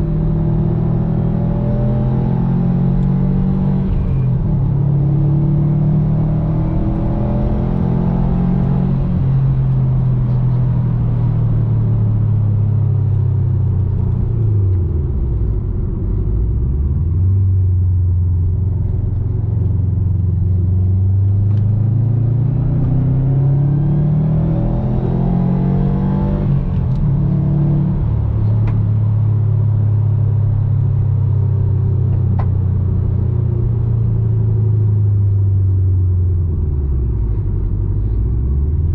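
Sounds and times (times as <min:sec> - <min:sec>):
car engine revving while driving: 0:00.0 - 0:38.9.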